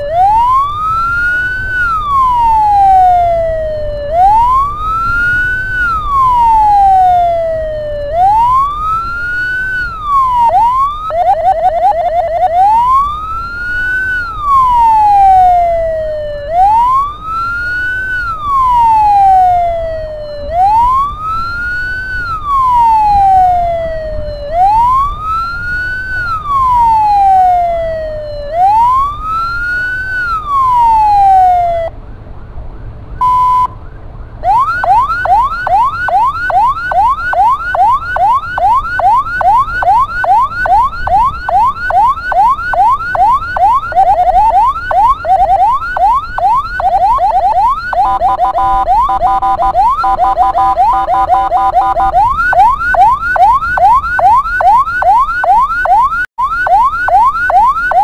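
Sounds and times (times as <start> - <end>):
ambulance siren wailing and yelping: 0.0 - 32.0, 33.2 - 58.0.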